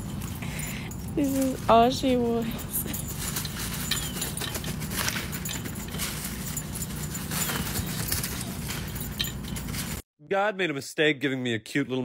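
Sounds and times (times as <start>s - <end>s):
dog paws tapping trampoline mat: 0.0s - 10.0s.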